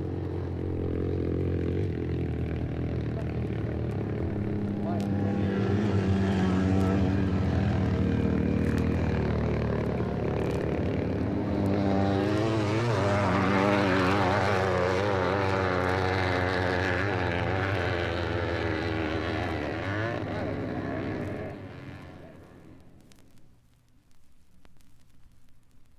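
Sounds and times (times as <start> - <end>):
propeller airplane engine droning: 0.0 - 23.0.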